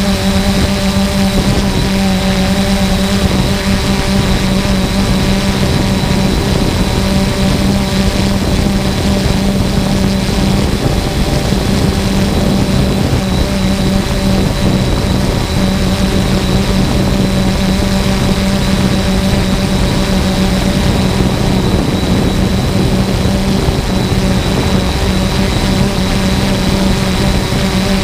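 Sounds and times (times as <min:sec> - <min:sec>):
constant noisy rush: 0:00.0 - 0:28.0
drone propellers humming: 0:00.0 - 0:28.0.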